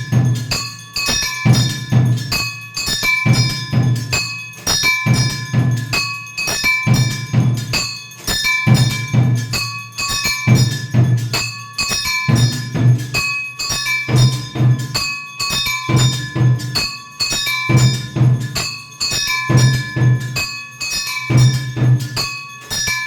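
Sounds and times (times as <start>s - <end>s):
drum beats: 0.0s - 23.0s
ringing bells: 0.0s - 23.0s.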